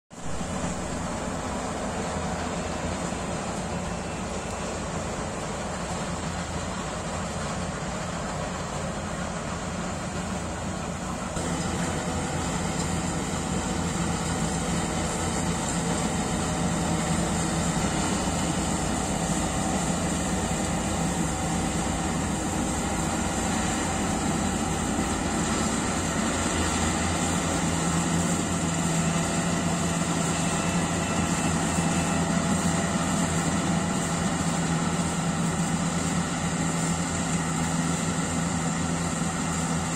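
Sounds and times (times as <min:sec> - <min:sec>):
combine harvester droning: 0:00.1 - 0:39.9.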